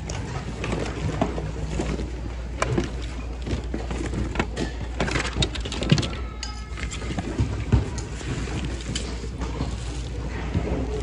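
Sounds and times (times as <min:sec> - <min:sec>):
items clattering in plastic bin: 0:00.6 - 0:11.0.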